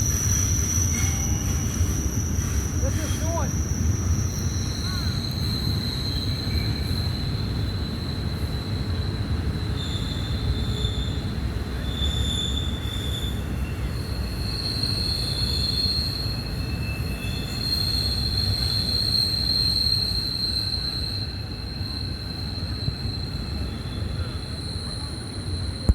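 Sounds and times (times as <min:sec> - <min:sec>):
train cars rumbling past: 0:00.0 - 0:25.9
train wheels squealing on rail: 0:00.0 - 0:25.9.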